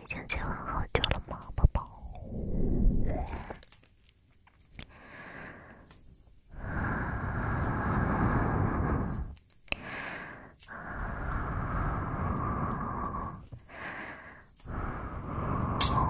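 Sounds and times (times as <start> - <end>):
heavy breathing: 1.7 - 3.7, 4.8 - 16.0.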